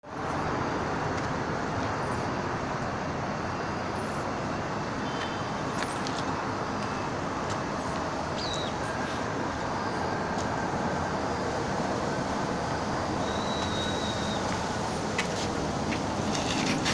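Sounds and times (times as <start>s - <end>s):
road traffic hum: 0.0s - 16.9s.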